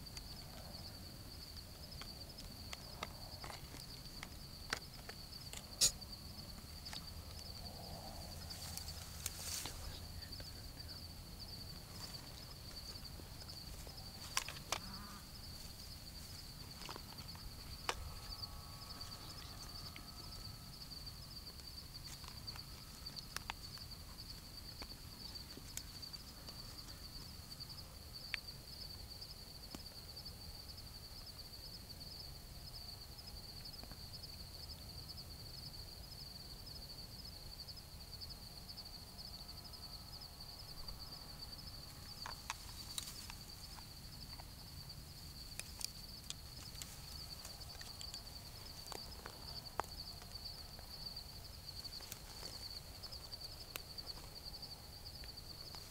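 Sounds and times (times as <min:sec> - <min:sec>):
high pulsing insect trill: 0:00.0 - 0:55.9.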